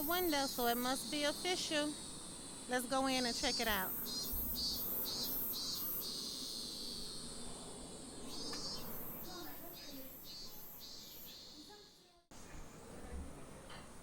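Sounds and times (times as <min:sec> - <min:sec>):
insects chirping: 0:00.0 - 0:12.2.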